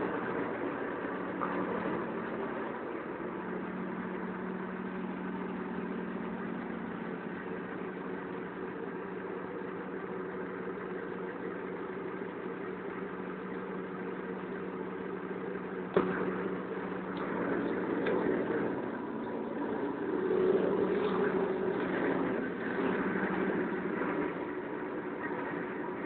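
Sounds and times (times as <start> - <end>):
engine-driven pump humming: 0.0 - 26.0.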